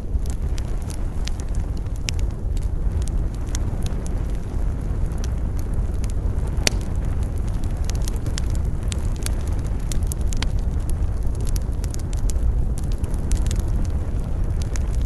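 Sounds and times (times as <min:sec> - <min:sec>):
campfire crackling and popping: 0:00.0 - 0:15.0
low wind rumble: 0:00.0 - 0:15.0.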